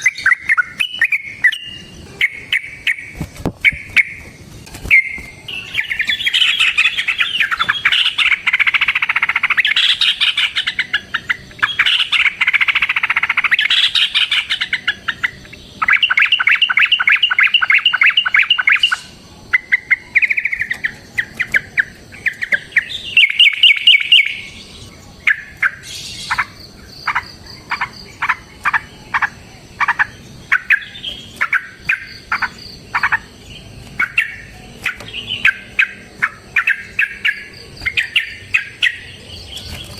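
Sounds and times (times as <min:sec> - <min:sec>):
bird chattering and trilling: 0:00.0 - 0:39.9.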